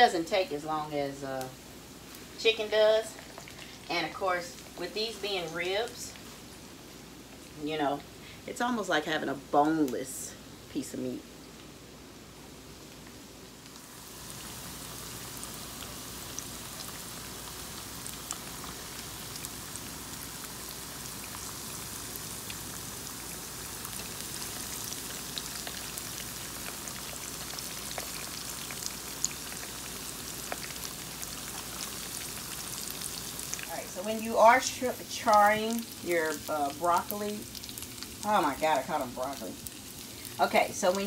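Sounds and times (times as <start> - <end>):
fish sizzling in oil: 0.0 - 8.8, 12.5 - 41.0.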